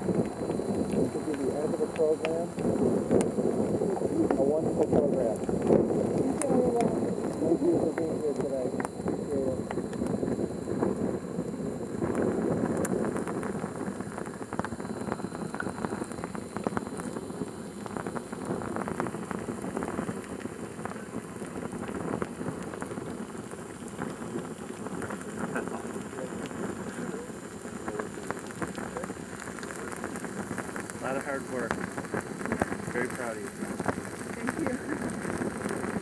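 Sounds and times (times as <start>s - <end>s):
flames crackling: 0.0s - 36.0s.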